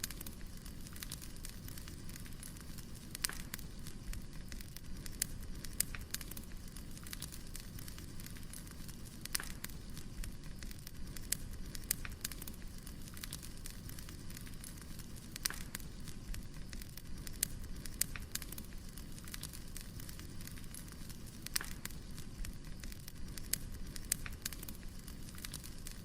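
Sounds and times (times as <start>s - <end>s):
fire crackling: 0.0s - 26.0s
low rush of flames: 0.0s - 26.0s.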